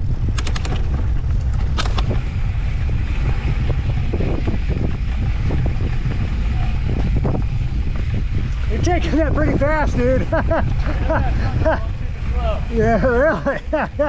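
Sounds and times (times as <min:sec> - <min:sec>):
bike rattles and clicks: 0:00.0 - 0:14.0
wind buffeting microphone: 0:00.0 - 0:14.0.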